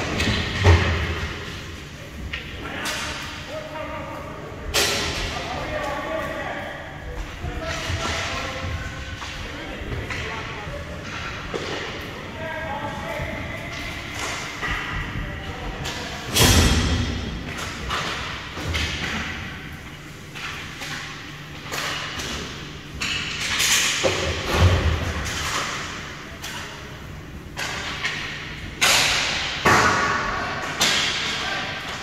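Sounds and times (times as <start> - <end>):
hockey puck and sticks hitting boards: 0.0 - 1.6, 4.7 - 6.0, 7.2 - 12.3, 12.9 - 26.8, 27.4 - 32.0.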